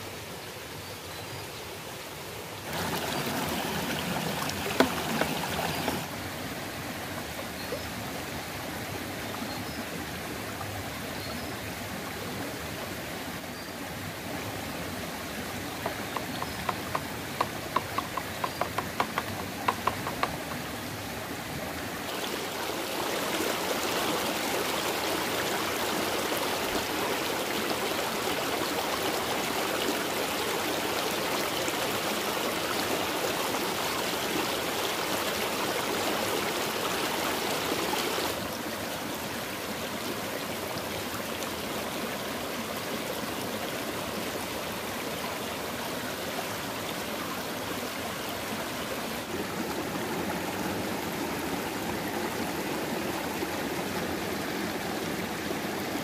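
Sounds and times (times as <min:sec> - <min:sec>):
stream splashing over stones: 0:02.6 - 0:09.4, 0:14.0 - 0:56.0.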